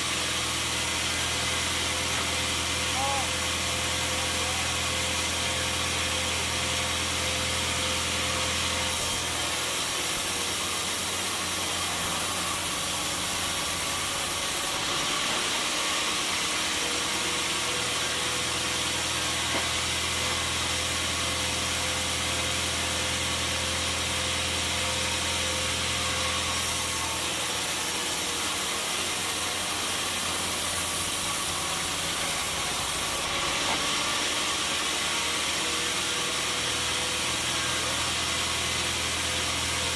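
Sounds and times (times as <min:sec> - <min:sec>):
loud machinery hiss: 0:00.0 - 0:39.7
sawmill motor hum: 0:00.0 - 0:39.9.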